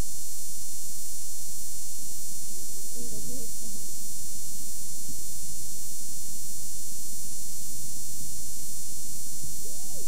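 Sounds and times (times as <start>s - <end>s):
buzzing hum and hiss: 0.0s - 10.0s.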